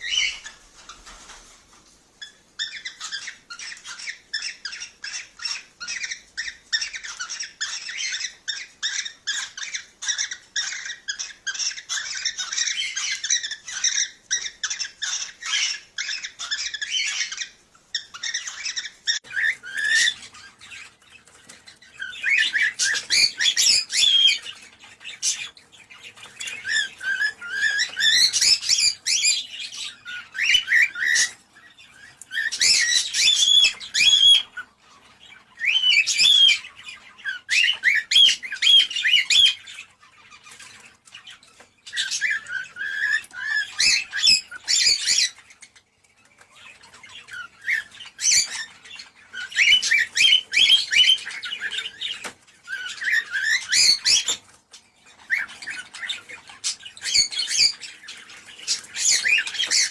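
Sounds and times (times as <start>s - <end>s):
cockatiel chirping and whistling: 2.2s - 45.7s, 46.5s - 59.9s.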